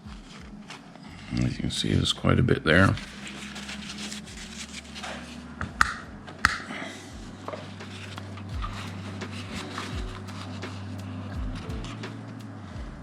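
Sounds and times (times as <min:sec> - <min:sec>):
handling and wiping noises: 0:00.0 - 0:13.0
steady low hum: 0:00.0 - 0:13.0.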